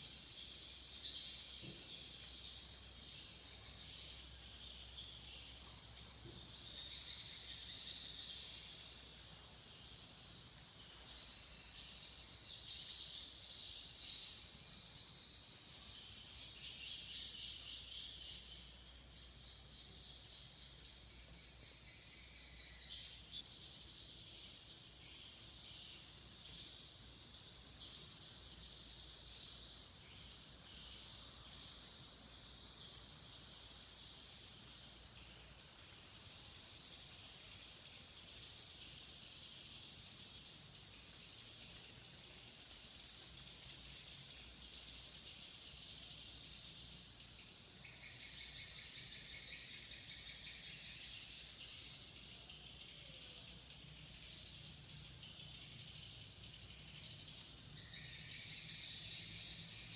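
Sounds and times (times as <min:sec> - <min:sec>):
high-pitched insect chorus: 0:00.0 - 0:59.9
lower buzzing insect chorus: 0:00.0 - 0:59.9.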